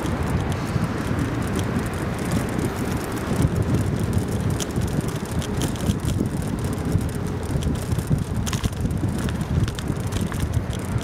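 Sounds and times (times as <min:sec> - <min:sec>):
bicycle clicks and rattles: 0:00.0 - 0:11.0
wind buffeting microphone: 0:00.0 - 0:11.0.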